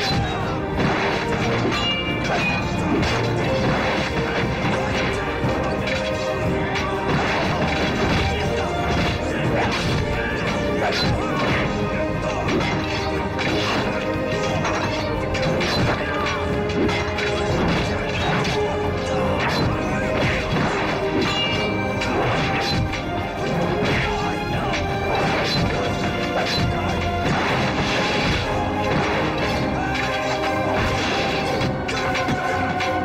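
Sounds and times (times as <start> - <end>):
dramatic music score: 0.0 - 33.0.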